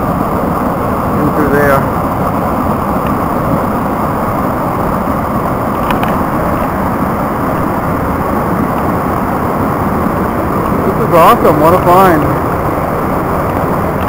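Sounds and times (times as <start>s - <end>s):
water rushing over boulders: 0.0s - 14.0s.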